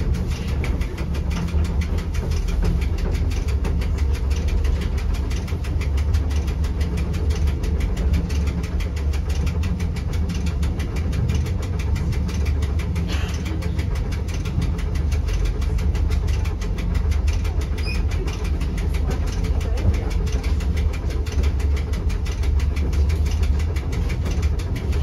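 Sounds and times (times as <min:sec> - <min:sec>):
fast even ticking: 0:00.0 - 0:25.0
railcar rumbling: 0:00.0 - 0:25.0.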